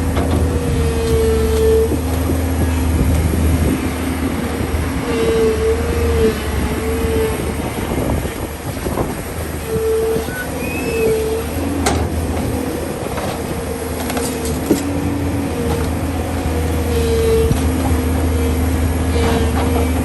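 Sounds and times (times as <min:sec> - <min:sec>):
excavator diesel engine running: 0:00.0 - 0:20.0
hydraulic whine tones: 0:00.0 - 0:20.0.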